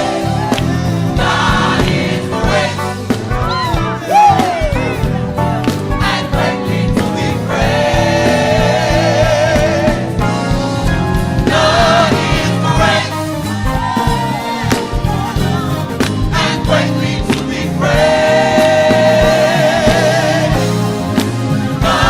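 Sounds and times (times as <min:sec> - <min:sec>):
gospel choir singing: 0:00.0 - 0:22.0
instrumental accompaniment: 0:00.0 - 0:22.0.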